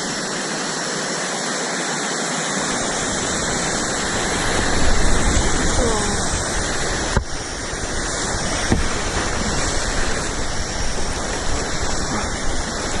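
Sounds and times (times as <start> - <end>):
whitewater rushing on rapids: 0.0 - 13.0.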